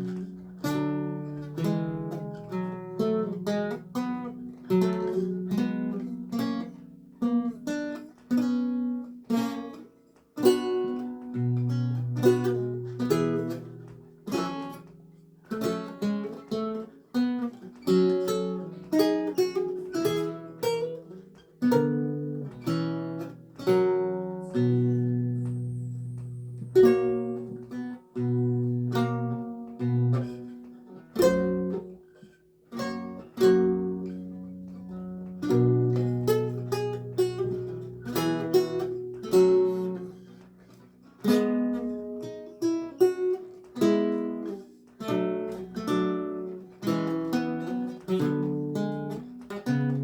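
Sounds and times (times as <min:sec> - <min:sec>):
lute plucked notes and chords: 0:00.0 - 0:50.0.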